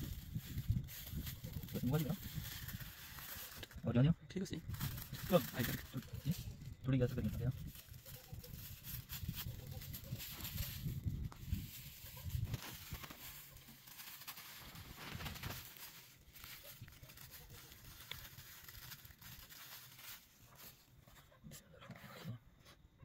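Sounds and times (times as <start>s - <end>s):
plastic bag crinkling: 0.0s - 3.9s, 4.5s - 21.0s.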